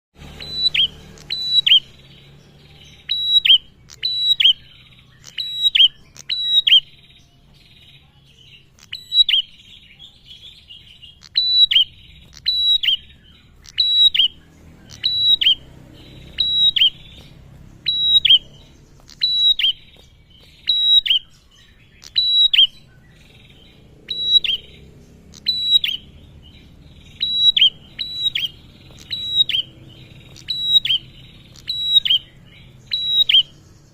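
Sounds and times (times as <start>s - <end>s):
bird chirping: 0.2s - 33.9s.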